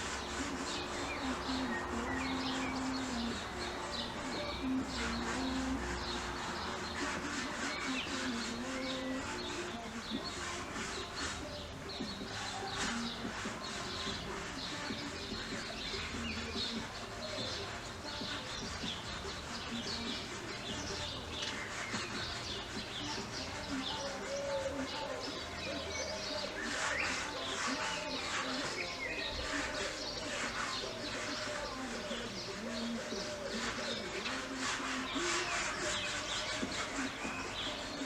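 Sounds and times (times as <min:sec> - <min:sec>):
garden birds chirping: 0:00.0 - 0:38.0.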